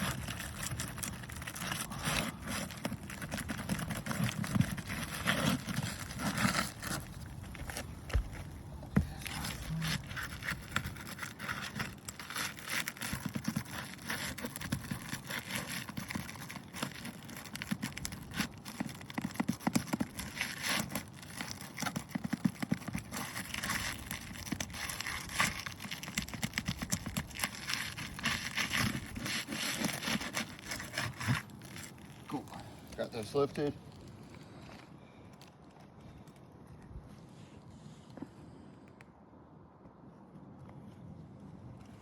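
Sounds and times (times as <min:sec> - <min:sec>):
roof shingles scraping and tearing: 0:00.0 - 0:34.7.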